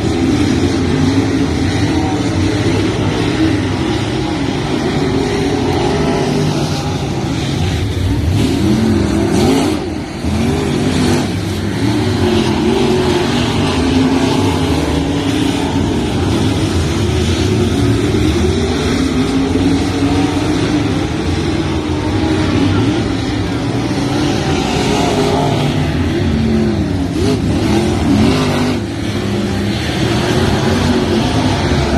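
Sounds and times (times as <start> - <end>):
race car engines accelerating: 0.0 - 31.9.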